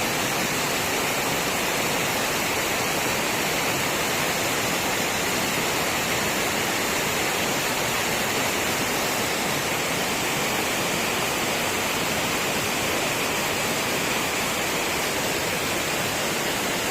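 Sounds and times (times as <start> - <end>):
rushing water: 0.0 - 16.9.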